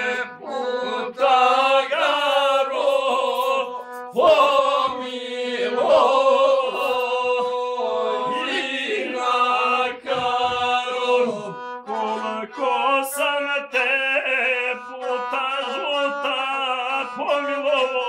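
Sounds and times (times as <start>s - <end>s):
folk singing by several voices: 0.0s - 18.0s.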